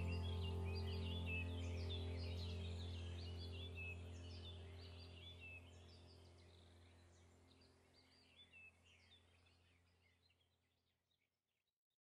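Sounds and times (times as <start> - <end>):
low steady hum: 0.0 - 9.8.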